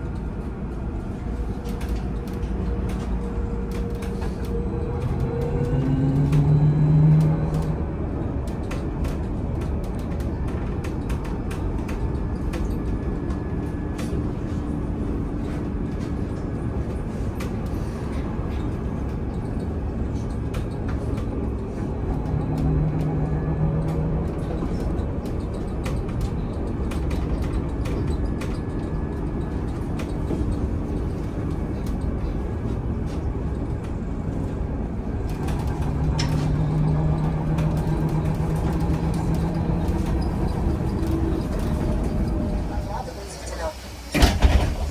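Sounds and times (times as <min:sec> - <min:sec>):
trolleybus cabin rumble: 0:00.0 - 0:44.9.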